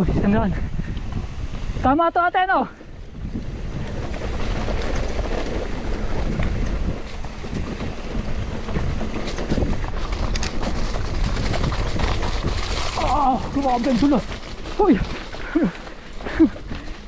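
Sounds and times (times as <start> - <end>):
bike tyres rumbling over ground: 0.0 - 17.0
wind buffeting microphone: 0.0 - 17.0
bike clicks and rattles: 2.8 - 17.0.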